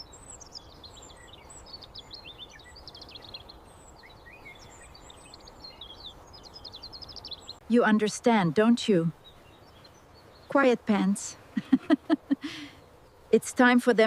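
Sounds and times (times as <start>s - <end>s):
outdoor background hiss: 0.0s - 14.0s
small birds chirping: 0.0s - 14.0s.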